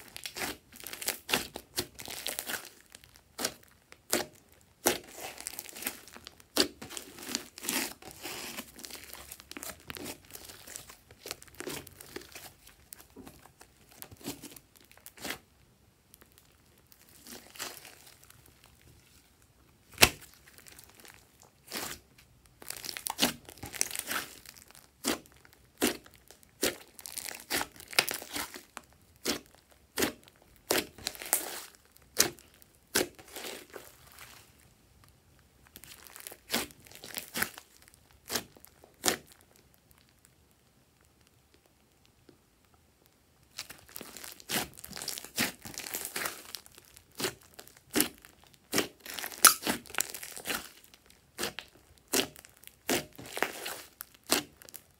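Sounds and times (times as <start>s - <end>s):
hands squishing slime: 0.0s - 34.9s, 35.6s - 39.6s, 43.4s - 54.9s
slime crackling and popping: 0.0s - 54.9s.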